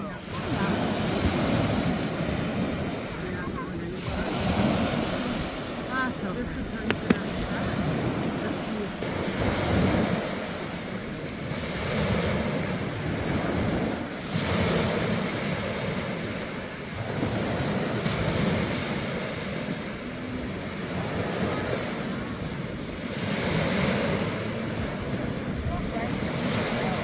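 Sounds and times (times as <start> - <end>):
small waves washing onto beach: 0.0 - 27.0
wind rumbling on microphone: 0.0 - 27.0.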